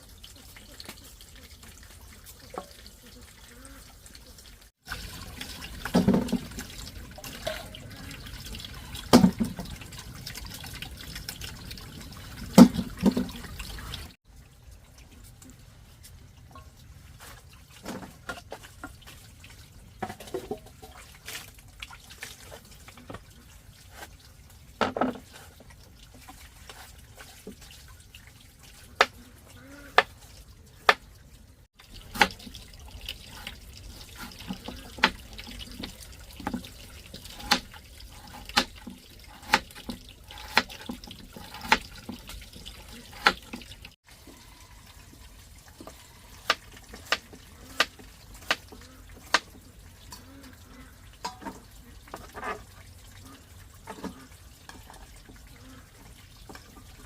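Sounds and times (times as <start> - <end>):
water running and splashing: 0.0 - 57.0.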